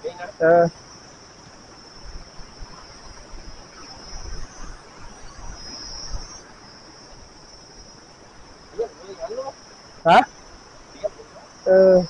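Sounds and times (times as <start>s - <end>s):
fast water rushing: 0.0s - 12.0s
high-pitched insect drone: 0.0s - 12.0s.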